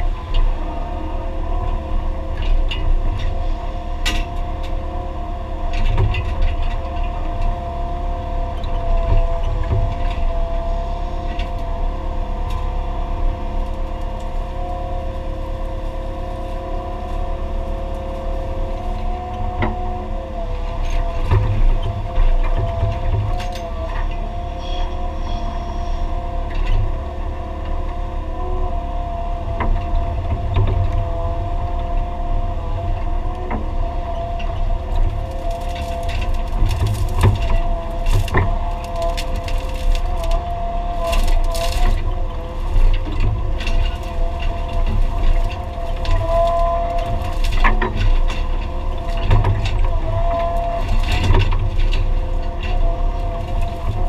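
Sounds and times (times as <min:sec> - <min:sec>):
excavator engine rumble: 0:00.0 - 0:54.0
hydraulic whine: 0:00.0 - 0:54.0.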